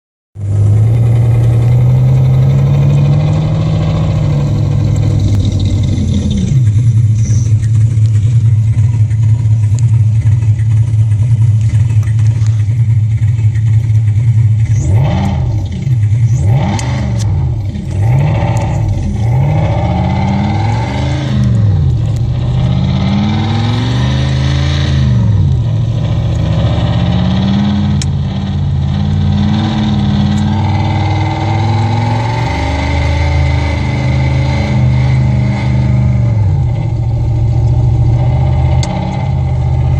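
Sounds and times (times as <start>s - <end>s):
car engine idling: 0.4s - 39.9s
engine revving: 0.4s - 39.9s.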